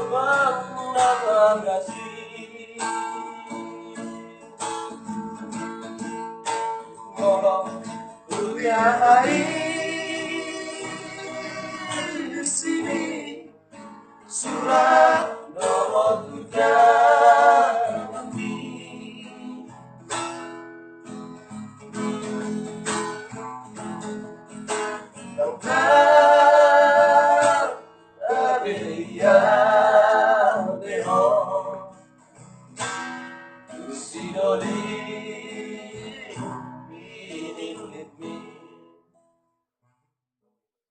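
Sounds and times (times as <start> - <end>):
acoustic guitar strumming: 0.0 - 39.4.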